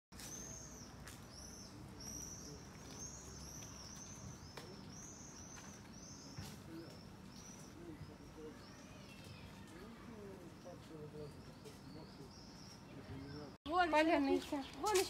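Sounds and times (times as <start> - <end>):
small birds chirping: 0.1 - 15.0
faint background noise: 0.2 - 15.0.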